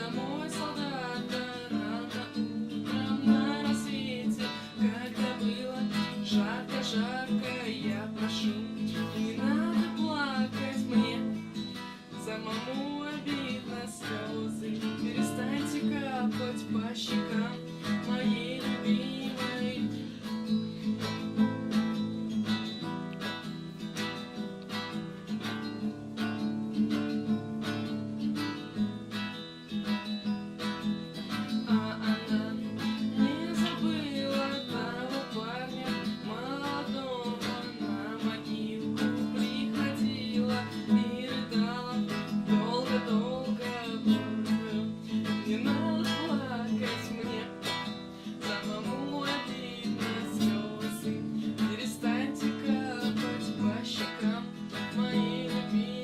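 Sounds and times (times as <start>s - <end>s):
wordless vocal melody: 0.0s - 24.4s, 30.7s - 56.0s
acoustic guitar strumming: 0.0s - 56.0s.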